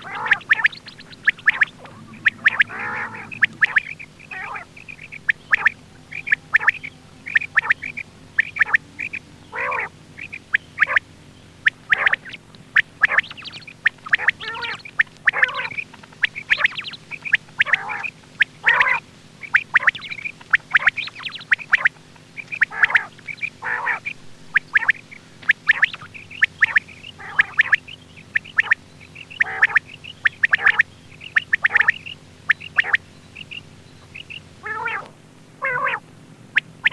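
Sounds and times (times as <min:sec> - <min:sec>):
quail calling: 0:00.0 - 0:36.9.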